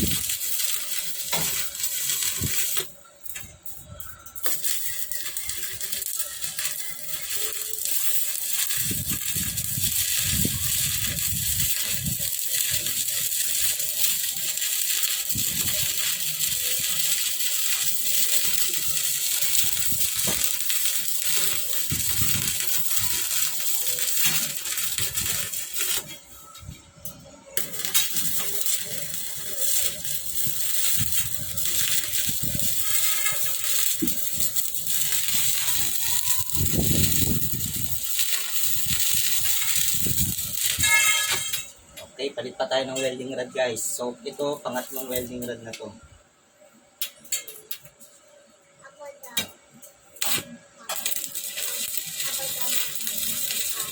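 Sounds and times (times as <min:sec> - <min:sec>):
welding arc crackling: 0:00.0 - 0:48.3, 0:49.0 - 0:53.9.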